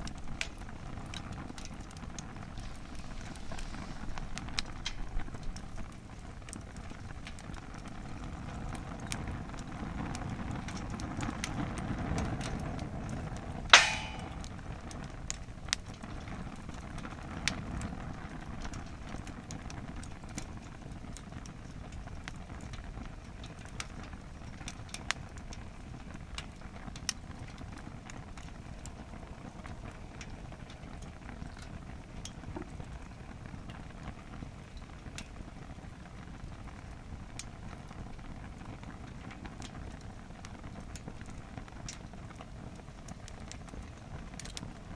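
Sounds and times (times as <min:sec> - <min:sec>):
burning wood crackles and pops: 0:00.0 - 0:44.9
low rush of flames: 0:00.0 - 0:44.9.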